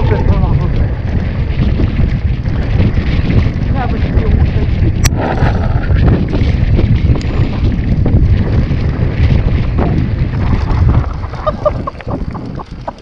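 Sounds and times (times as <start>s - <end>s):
mountain bike rumbling and rattling: 0.0s - 13.0s
wind rushing over microphone: 0.0s - 13.0s.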